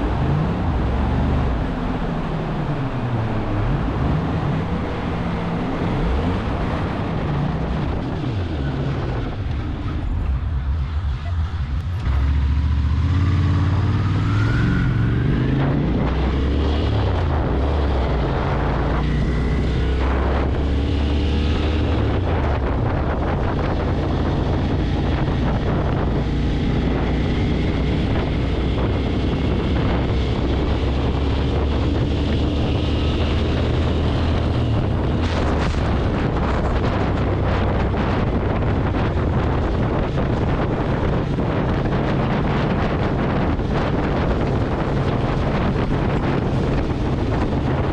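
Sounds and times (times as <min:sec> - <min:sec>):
wind noise on microphone: 0:00.0 - 0:47.9.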